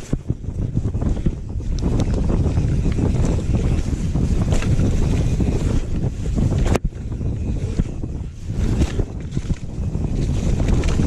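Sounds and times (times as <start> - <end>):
bike jolts and rattles: 0.0 - 11.0
wind buffeting microphone: 0.0 - 11.0.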